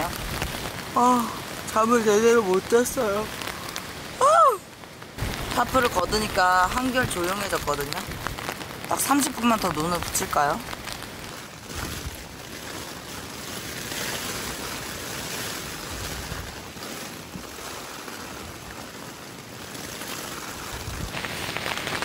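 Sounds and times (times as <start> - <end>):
rain on a tent: 0.0 - 22.0
wind: 0.0 - 22.0.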